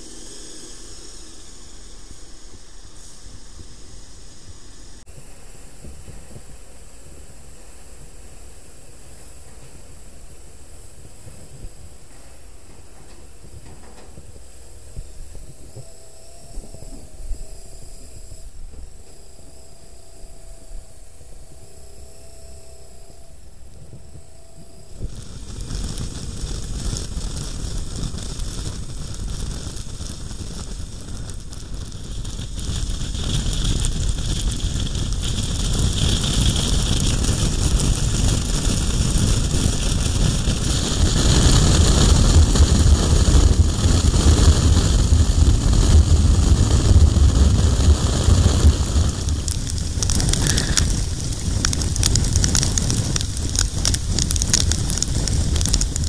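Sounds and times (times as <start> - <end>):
low rumble: 0.0 - 56.0
wind buffeting microphone: 0.0 - 56.0.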